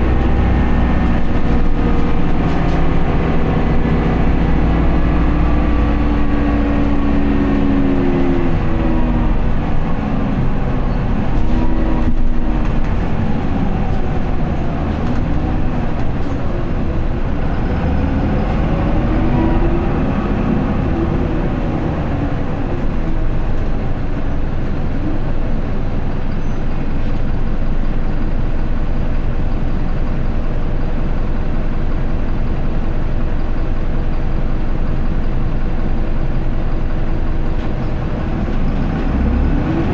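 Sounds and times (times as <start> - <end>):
bus diesel engine: 0.0 - 39.9.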